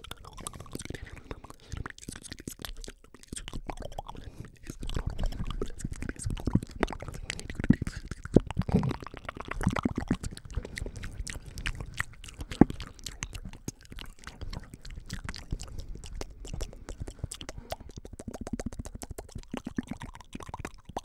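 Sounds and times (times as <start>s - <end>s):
wet mouth clicks and smacks: 0.0s - 21.0s.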